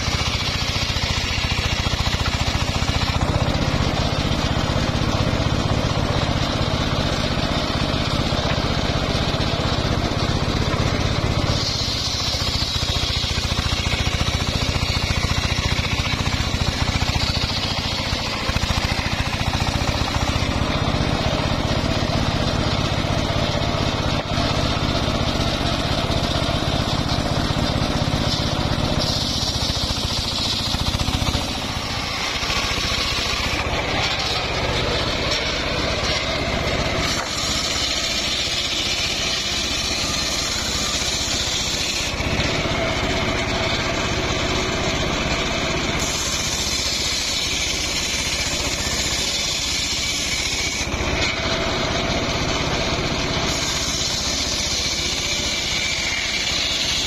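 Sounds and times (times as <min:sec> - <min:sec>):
circular sawmill cutting logs: 0:00.0 - 0:57.0.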